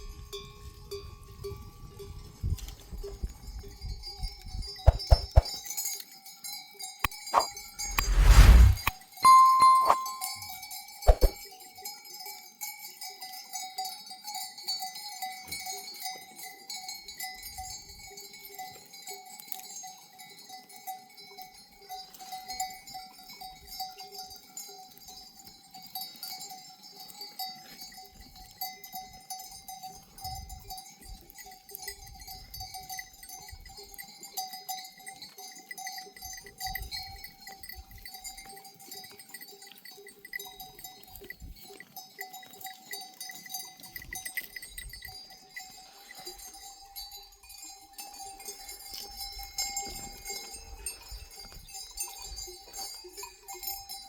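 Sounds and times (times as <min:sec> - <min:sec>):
sheep bells clinking: 0:00.0 - 0:07.3, 0:09.3 - 0:54.0.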